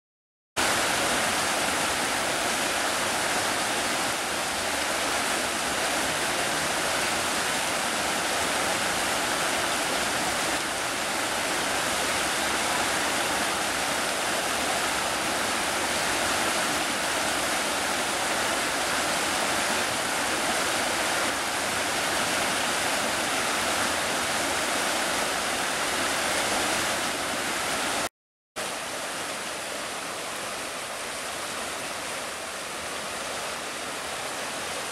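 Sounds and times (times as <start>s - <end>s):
floodwater rushing: 0.6s - 34.9s.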